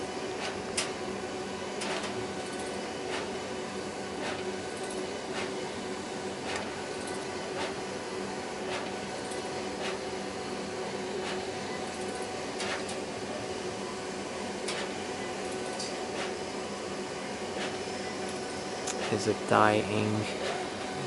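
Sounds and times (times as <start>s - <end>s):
printer mechanical hum: 0.0s - 21.0s.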